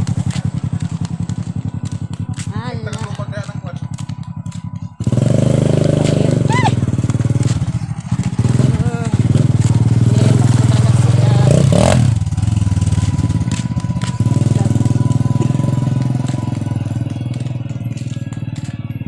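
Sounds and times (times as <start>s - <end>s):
small engine pulsing: 0.0s - 19.0s.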